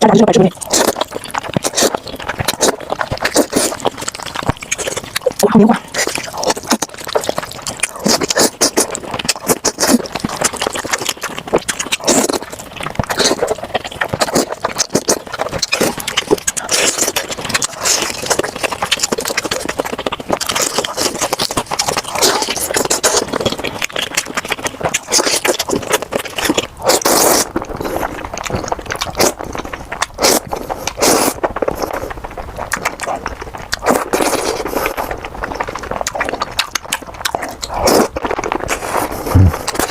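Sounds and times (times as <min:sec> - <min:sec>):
wet chewing clicks: 0:00.0 - 0:39.9
slurping noodles: 0:00.5 - 0:39.9.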